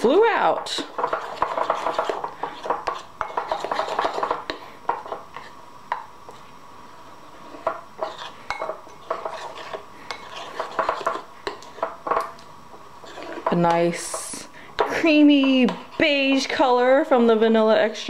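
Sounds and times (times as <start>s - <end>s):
metal spoon stirring in ceramic bowl: 0.0s - 16.7s.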